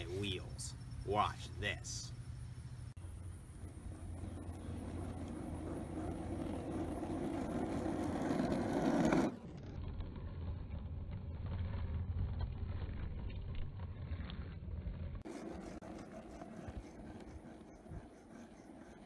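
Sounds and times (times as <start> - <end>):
board wheels rolling on asphalt: 3.0 - 19.0.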